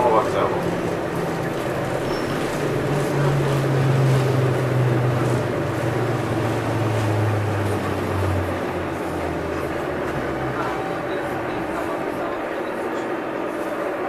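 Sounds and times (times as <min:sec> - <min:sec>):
low motor hum: 0:00.0 - 0:14.0
train wheels rumbling in tunnel: 0:00.0 - 0:14.0.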